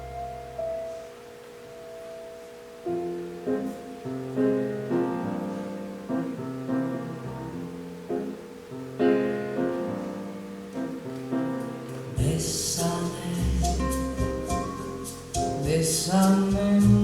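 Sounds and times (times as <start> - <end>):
piano chords through speakers: 0.0 - 17.0.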